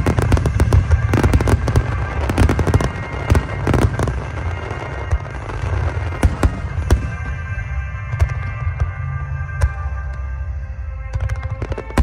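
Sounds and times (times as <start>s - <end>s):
fireworks cracking and banging: 0.0s - 10.3s, 11.2s - 12.0s.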